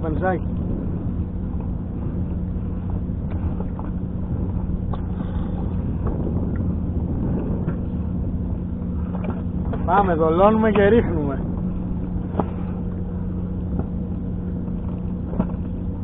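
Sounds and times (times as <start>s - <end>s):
outboard motor idling: 0.0s - 16.0s
wind noise on microphone: 0.0s - 16.0s.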